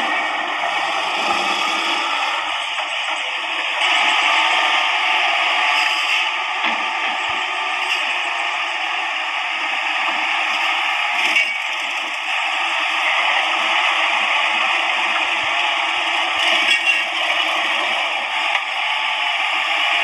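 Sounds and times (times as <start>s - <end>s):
excavator engine din: 0.0s - 20.0s.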